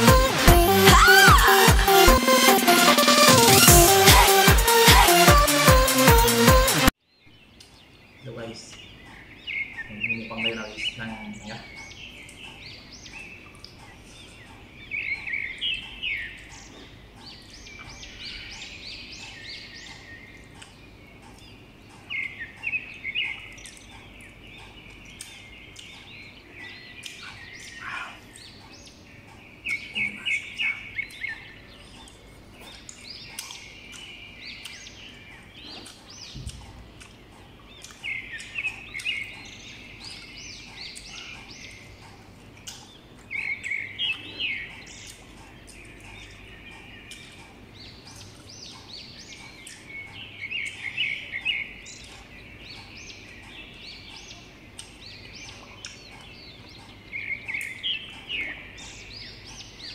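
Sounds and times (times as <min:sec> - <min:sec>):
bird chirping: 0:00.0 - 0:59.9
crunchy chewing: 0:11.7 - 0:59.9.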